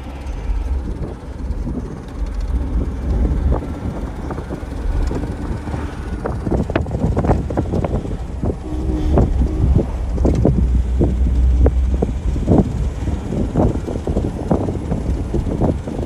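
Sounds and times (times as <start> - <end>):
car engine and road noise: 0.0 - 16.0
knocks and rattles: 0.0 - 16.0.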